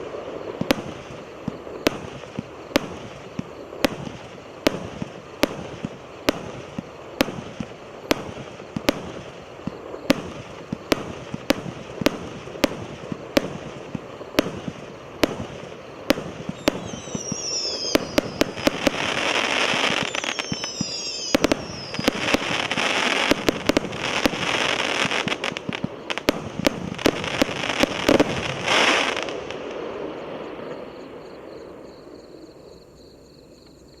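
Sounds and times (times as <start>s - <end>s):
fireworks launch reports: 0.0s - 31.4s
fireworks crackling: 0.0s - 31.8s
falling firework whistles: 0.0s - 32.8s.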